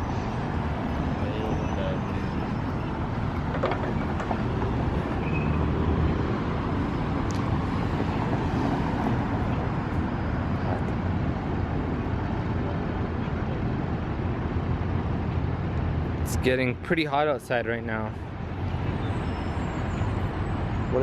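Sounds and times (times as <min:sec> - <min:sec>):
traffic roar: 0:00.0 - 0:21.0.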